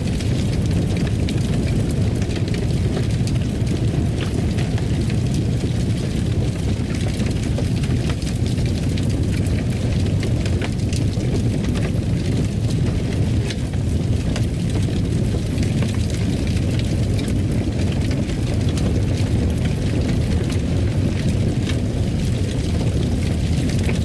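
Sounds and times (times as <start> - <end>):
fire pops and crackles: 0.0 - 24.0
flames rumbling: 0.0 - 24.0.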